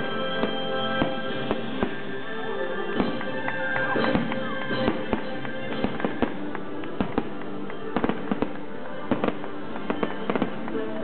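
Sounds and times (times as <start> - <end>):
fireworks bangs: 0.0 - 11.0
music playing: 0.0 - 11.0.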